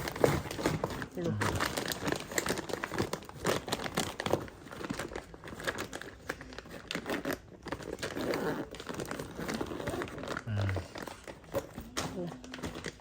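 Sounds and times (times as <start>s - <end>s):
bag rustling and crinkling: 0.0s - 13.0s.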